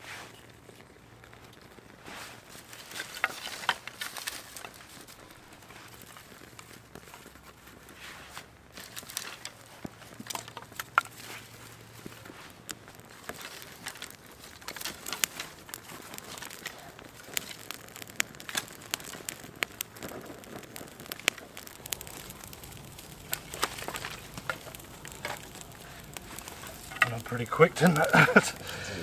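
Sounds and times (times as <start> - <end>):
campfire crackling and popping: 0.0 - 29.0
dry twigs rustling: 0.3 - 29.0.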